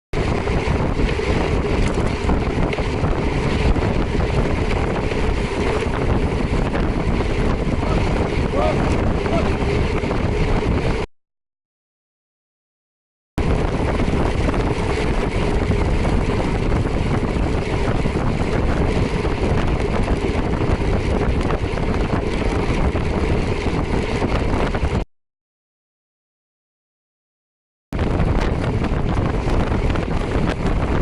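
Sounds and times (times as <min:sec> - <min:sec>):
motorcycle engine running: 0:00.2 - 0:11.1, 0:13.4 - 0:25.0, 0:28.0 - 0:31.0
wind buffeting microphone: 0:00.2 - 0:11.1, 0:13.4 - 0:25.0, 0:28.0 - 0:31.0.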